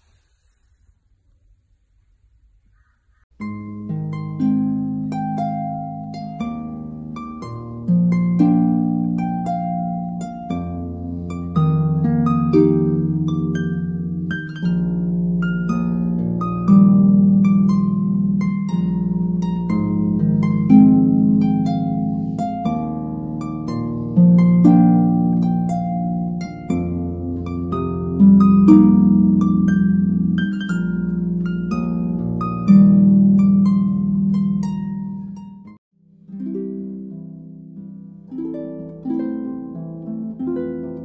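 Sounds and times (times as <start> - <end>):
gentle plucked harp-like melody: 3.4 - 41.0.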